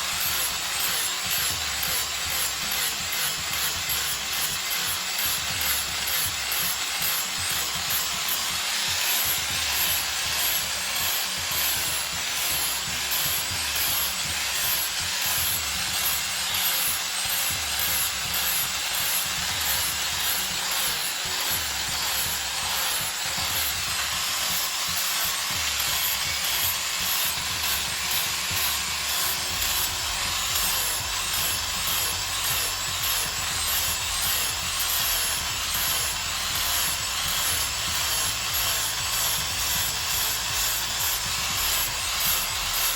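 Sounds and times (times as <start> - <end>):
power sander on wood: 0.0 - 42.9.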